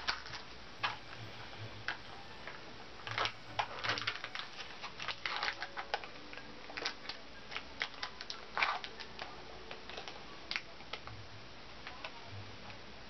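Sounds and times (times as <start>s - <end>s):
snack packet crinkling: 0.0s - 11.1s.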